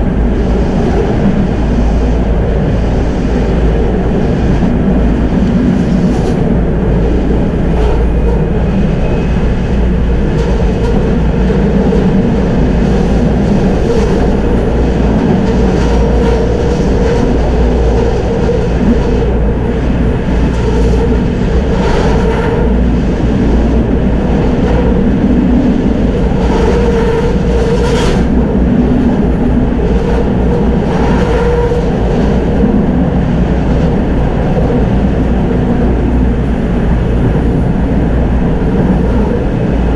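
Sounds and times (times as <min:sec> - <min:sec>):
tram rumbling along track: 0:00.0 - 0:39.9
wheels clattering on rails: 0:00.0 - 0:39.9.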